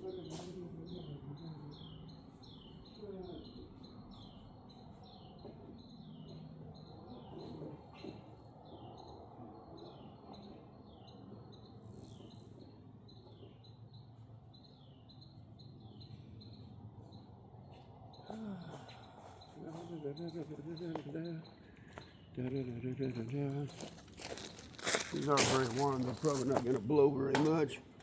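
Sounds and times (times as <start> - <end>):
bird chirping: 0.0 - 28.0
faint background noise: 0.0 - 28.0.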